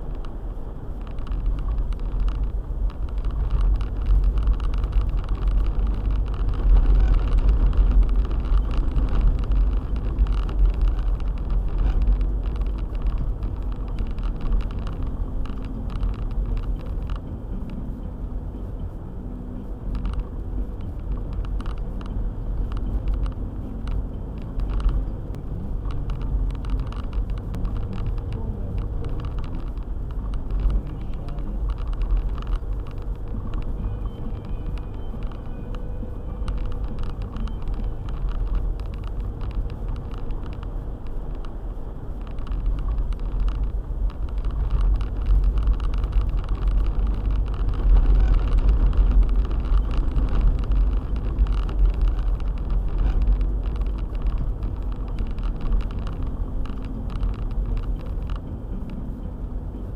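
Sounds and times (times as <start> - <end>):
car driving on snowy road: 0.0 - 59.9.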